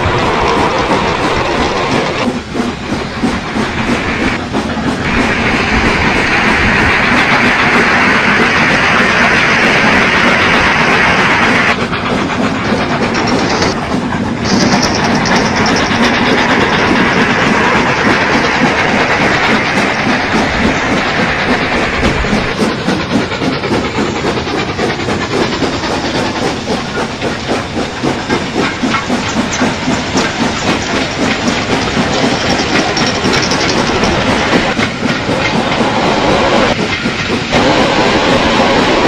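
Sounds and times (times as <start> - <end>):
wheels clacking over rail joints: 0.0 - 39.0.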